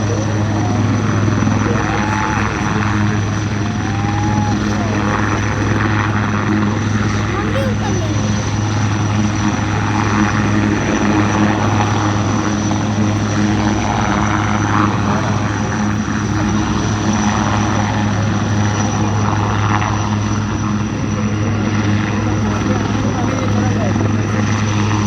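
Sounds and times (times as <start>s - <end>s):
helicopter rotor and engine: 0.0s - 25.0s.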